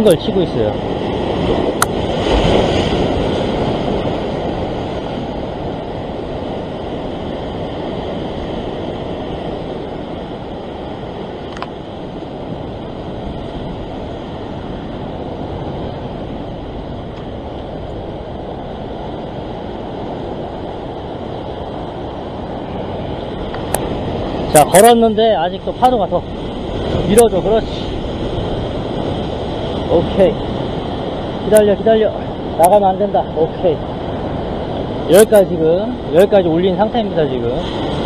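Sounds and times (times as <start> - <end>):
ocean waves breaking on rocks: 0.0 - 38.0.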